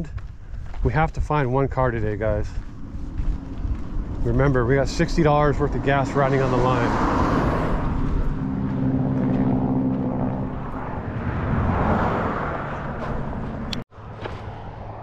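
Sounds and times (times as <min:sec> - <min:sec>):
road noise rushing: 0:00.0 - 0:15.0
vehicle engine hum: 0:00.0 - 0:15.0.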